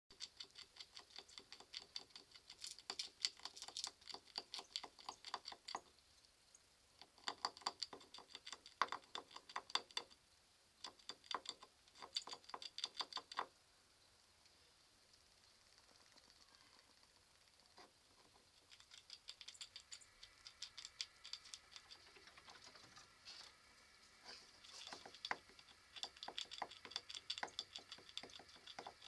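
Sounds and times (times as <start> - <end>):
squirrel gnawing on antler: 0.1 - 10.2, 10.8 - 13.6, 15.1 - 29.0.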